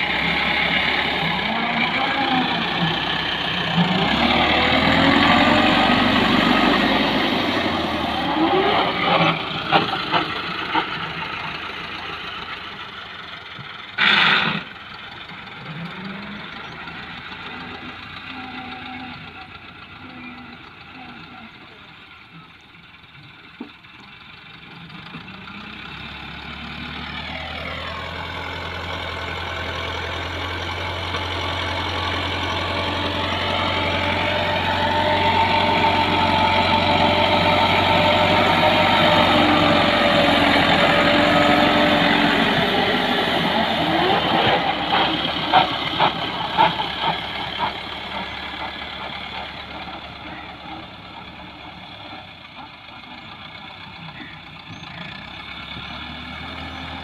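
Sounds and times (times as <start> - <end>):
tractor diesel engine working: 0.0 - 57.0.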